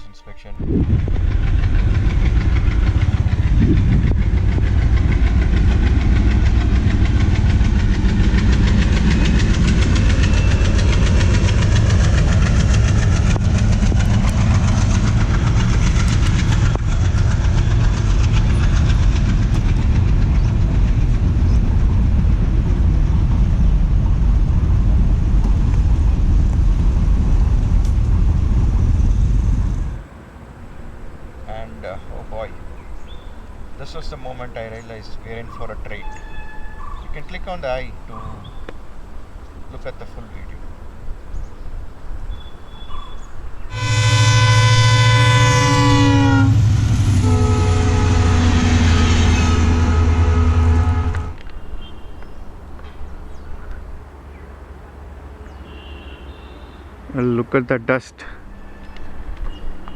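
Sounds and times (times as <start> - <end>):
train rumbling at speed: 0.0 - 55.9, 58.2 - 59.9.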